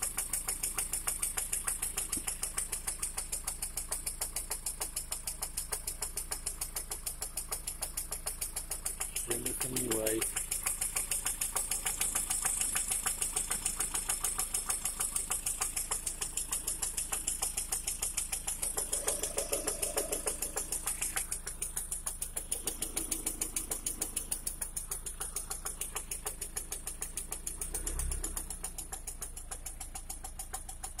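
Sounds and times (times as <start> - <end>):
car engine metallic knocking: 0.0 - 31.0.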